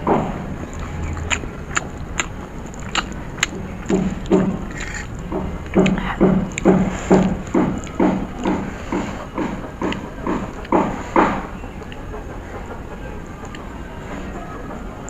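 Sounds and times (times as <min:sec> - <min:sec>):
sharp wet clicks: 0:00.1 - 0:13.9
close-up chewing: 0:00.1 - 0:15.0.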